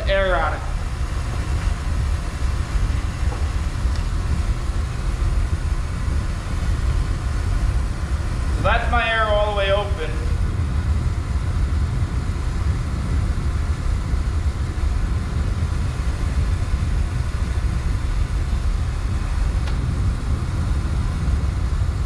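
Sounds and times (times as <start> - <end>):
pressure washer burner rumble: 0.0 - 22.0.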